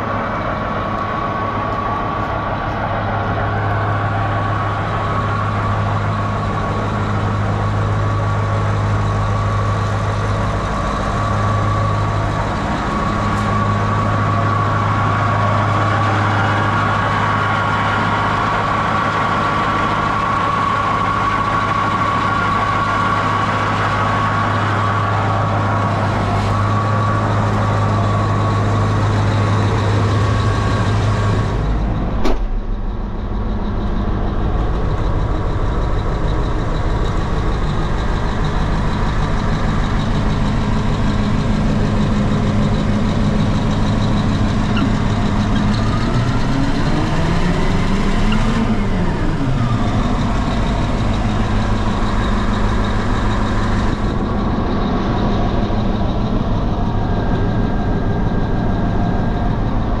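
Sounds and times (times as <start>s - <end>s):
diesel engine idling and revving: 0.0s - 60.0s.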